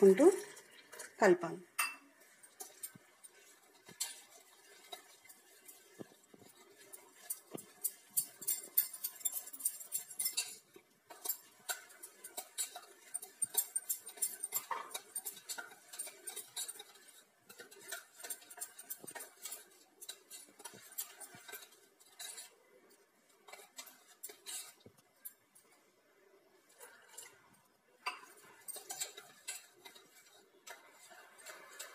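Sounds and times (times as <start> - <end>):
utensil scraping metal bowl: 2.5 - 25.3, 28.0 - 31.9.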